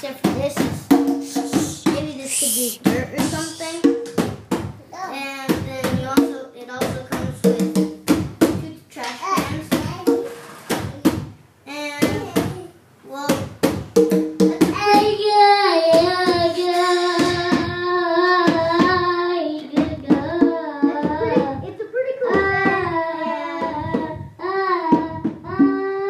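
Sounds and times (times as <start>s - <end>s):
child singing: 0.0s - 3.9s, 4.9s - 13.4s, 14.5s - 26.0s.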